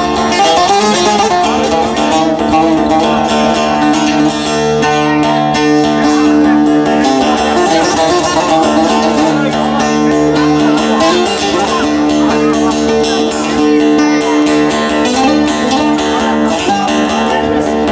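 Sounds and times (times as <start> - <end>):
long-necked lute strummed and plucked: 0.0 - 17.9
second lute playing along: 0.0 - 17.9.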